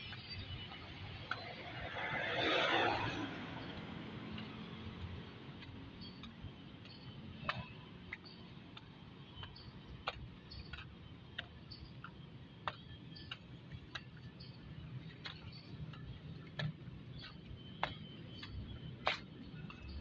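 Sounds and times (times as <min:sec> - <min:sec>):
footsteps on pavement: 0:00.0 - 0:20.0.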